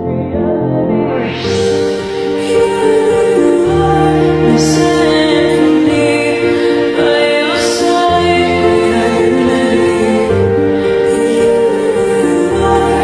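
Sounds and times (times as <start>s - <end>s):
slow song with sustained chords: 0.0s - 13.0s
bright high swells: 1.0s - 13.0s.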